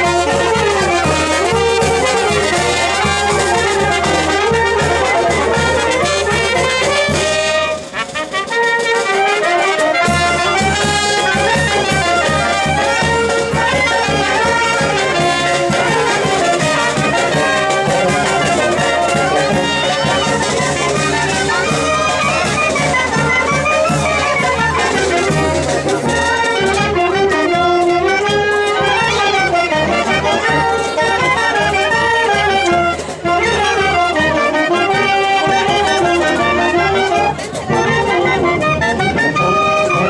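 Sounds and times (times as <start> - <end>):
brass band playing dance music: 0.0 - 40.0.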